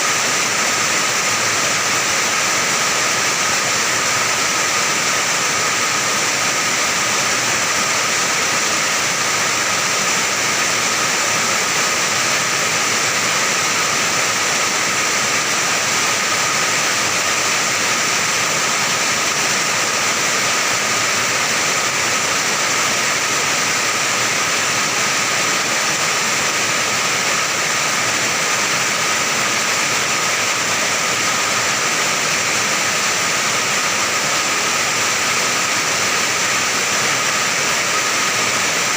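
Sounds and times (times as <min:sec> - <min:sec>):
heavy rain on a metal roof: 0:00.0 - 0:38.9.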